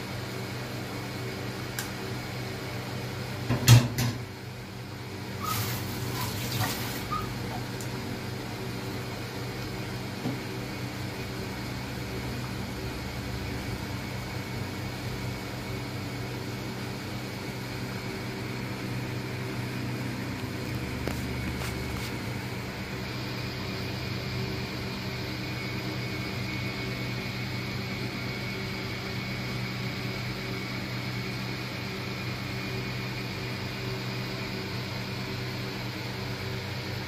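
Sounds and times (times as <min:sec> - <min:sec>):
induction cooktop fan hum: 0:00.0 - 0:37.0.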